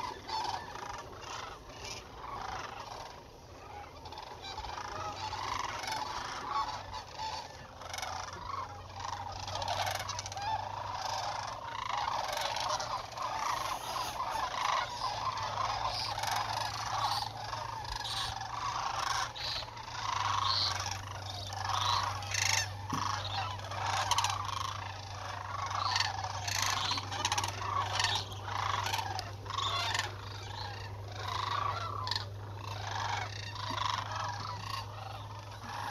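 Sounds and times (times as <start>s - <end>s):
flock of cranes calling: 0.0s - 35.9s.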